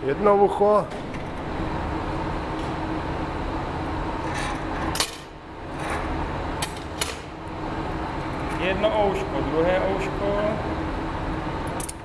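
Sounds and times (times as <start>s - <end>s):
low workshop roar: 0.0s - 12.0s.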